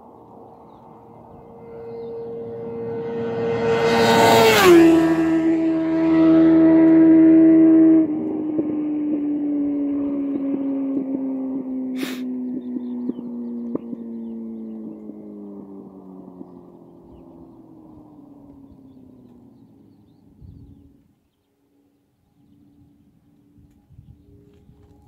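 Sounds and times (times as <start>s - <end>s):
motorcycle passing at high speed: 0.0s - 25.0s.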